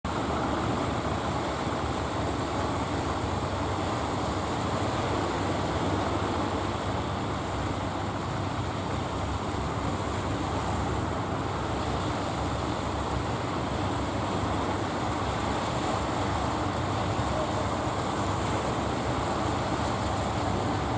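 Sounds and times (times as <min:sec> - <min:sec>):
boat engines droning: 0:00.1 - 0:20.9
surf washing: 0:00.1 - 0:20.9.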